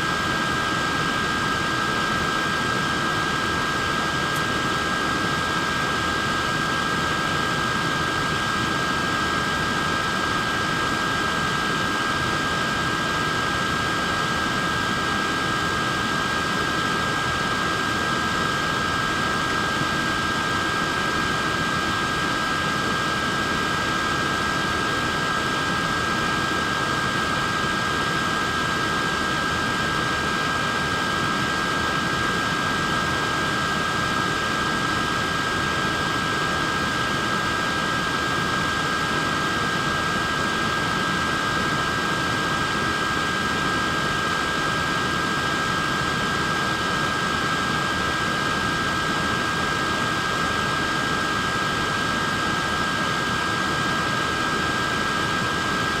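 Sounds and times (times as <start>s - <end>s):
small fan running: 0.0s - 56.0s.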